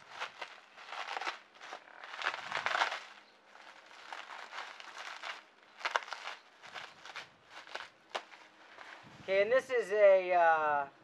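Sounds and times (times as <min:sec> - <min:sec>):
bubble wrap crinkling: 0:00.0 - 0:09.2.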